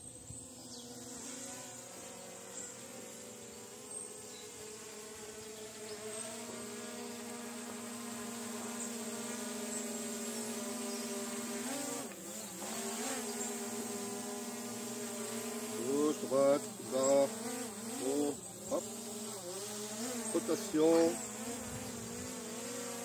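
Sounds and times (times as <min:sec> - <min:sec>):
drone propellers buzzing: 0:00.0 - 0:23.0.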